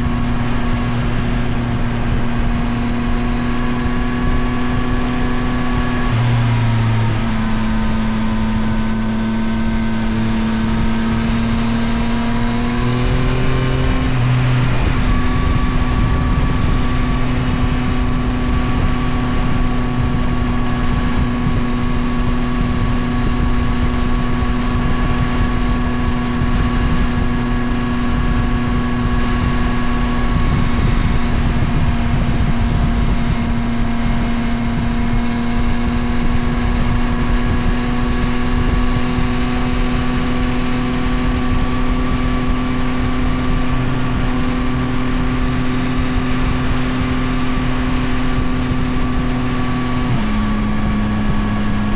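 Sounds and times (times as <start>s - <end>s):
motorcycle engine running: 0.0s - 51.9s
road rumble: 0.0s - 51.9s
wind: 0.0s - 51.9s.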